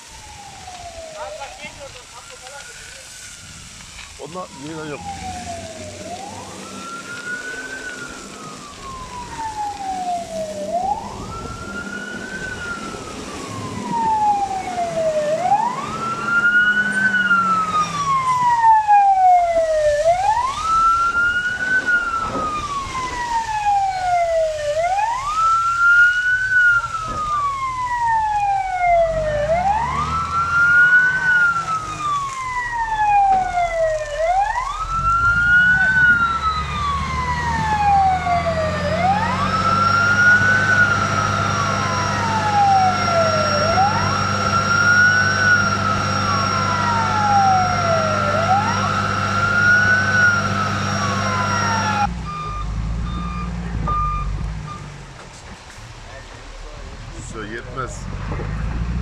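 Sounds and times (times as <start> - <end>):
fire engine siren wailing: 0.0 - 59.0
low engine rumble: 0.0 - 59.0.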